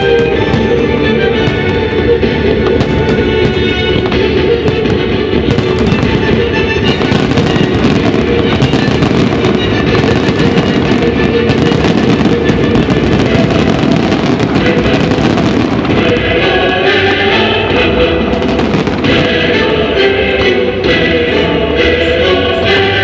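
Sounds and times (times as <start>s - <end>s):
fireworks bursting and crackling: 0.0s - 21.4s
loud music playing: 0.0s - 23.0s.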